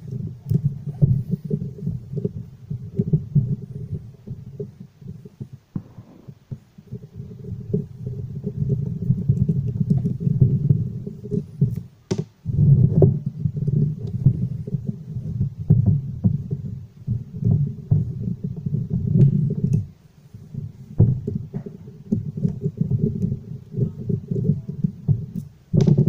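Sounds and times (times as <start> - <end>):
low uneven rumble: 0.0 - 26.0.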